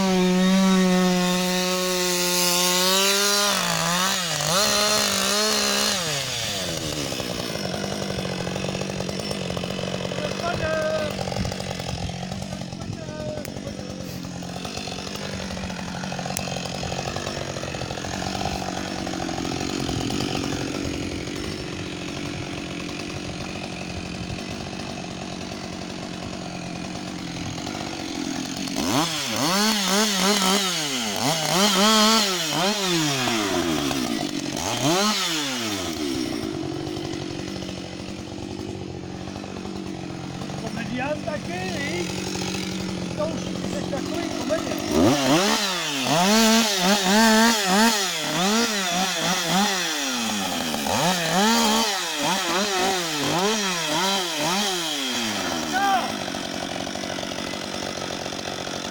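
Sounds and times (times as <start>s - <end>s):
chainsaw idling and revving: 0.0s - 58.9s.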